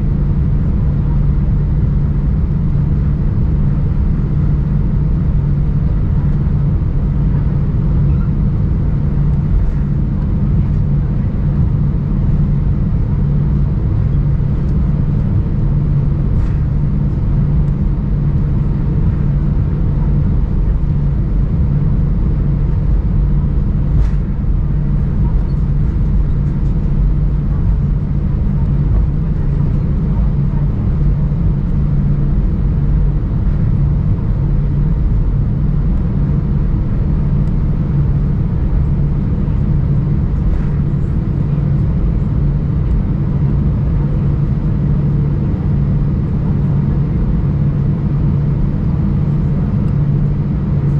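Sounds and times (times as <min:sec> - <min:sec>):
constant low hum: 0:00.0 - 0:50.9
low vehicle rumble: 0:00.0 - 0:50.9.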